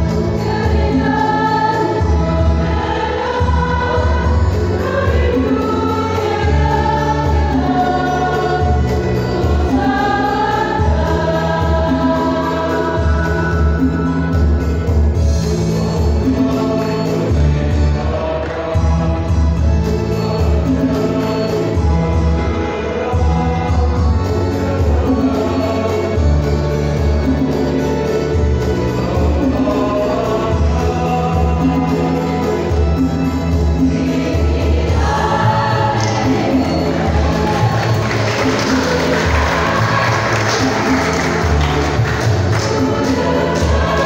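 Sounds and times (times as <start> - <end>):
choir singing gospel: 0.0 - 44.0.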